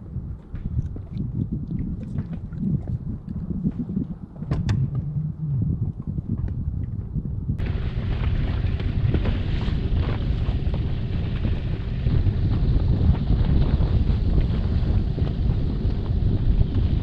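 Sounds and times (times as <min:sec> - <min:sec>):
rushing wind and water: 0:00.0 - 0:17.0
wind buffeting microphone: 0:00.0 - 0:17.0.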